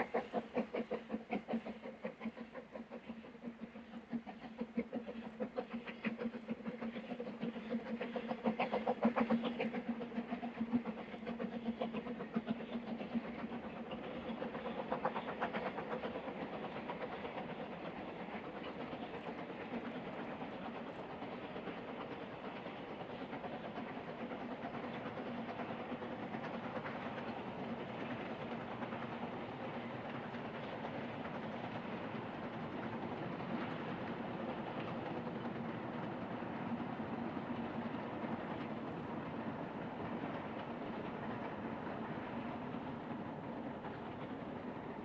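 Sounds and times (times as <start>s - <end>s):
train rail clatter: 0.0s - 45.0s.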